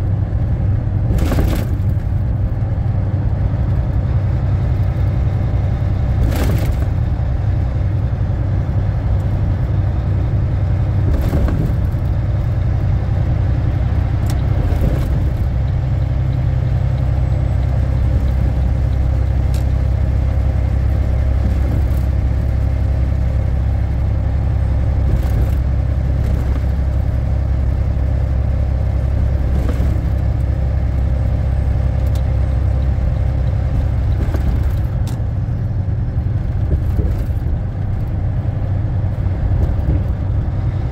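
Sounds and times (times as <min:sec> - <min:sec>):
road noise: 0:00.0 - 0:40.9
truck diesel engine cruising: 0:00.0 - 0:40.9.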